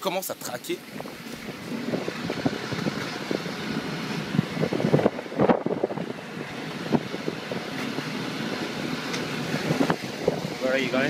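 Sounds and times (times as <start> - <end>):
vehicle engine and road noise: 0.0 - 11.0
wind buffeting microphone: 0.4 - 11.0.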